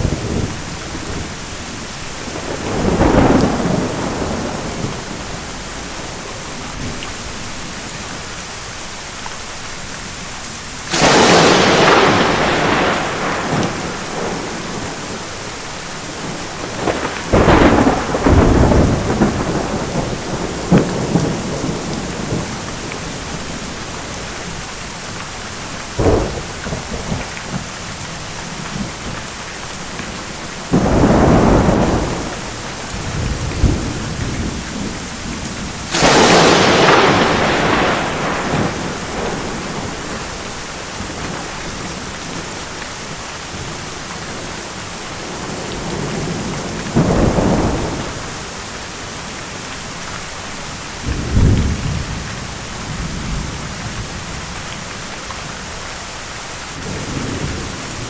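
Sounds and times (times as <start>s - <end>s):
thunder cracking and rumbling: 0.0s - 7.5s, 10.9s - 55.0s, 56.7s - 58.0s
heavy rain: 0.0s - 58.0s.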